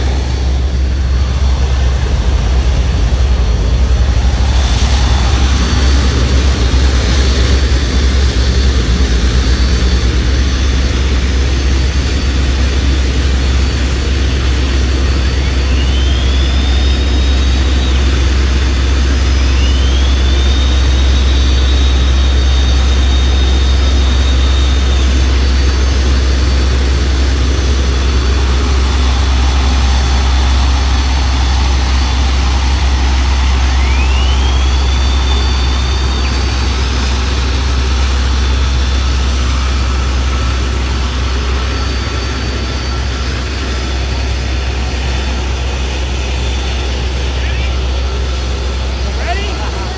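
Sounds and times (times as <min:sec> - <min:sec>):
powerboat engines rumbling: 0:00.0 - 0:49.9
turbine whine spooling up: 0:00.0 - 0:49.9.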